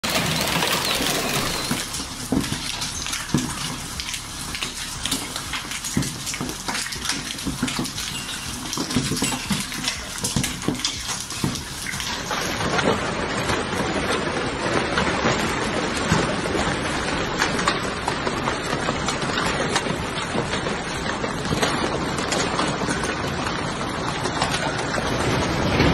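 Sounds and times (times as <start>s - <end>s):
hailstones pelting paving and awning: 0.0s - 25.9s
heavy rain hiss: 0.1s - 25.9s.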